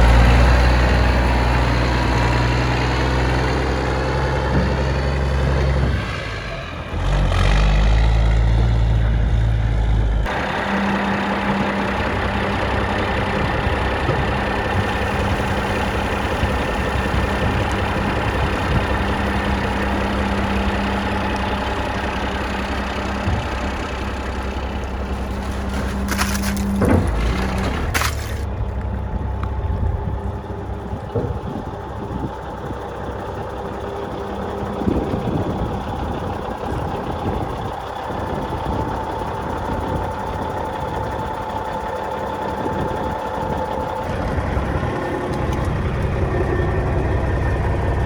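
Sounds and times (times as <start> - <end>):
diesel truck engine idling: 0.0 - 48.0.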